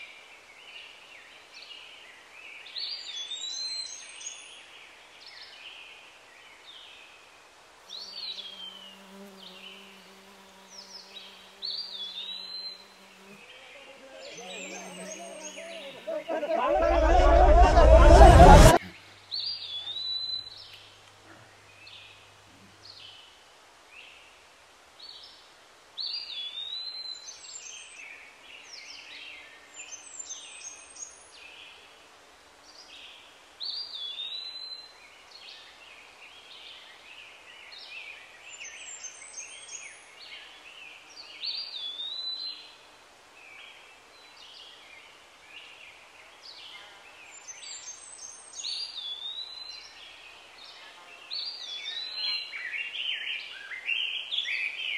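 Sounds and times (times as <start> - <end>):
faint background hiss: 0.0 - 54.9.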